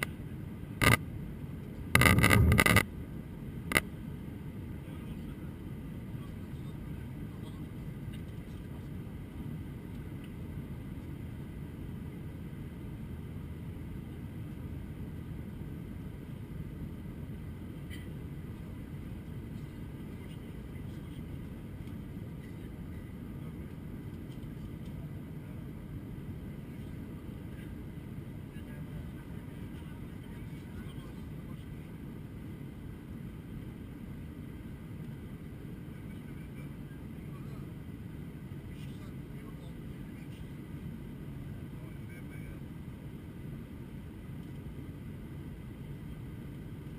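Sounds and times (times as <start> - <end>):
airplane cabin drone: 0.0 - 46.9.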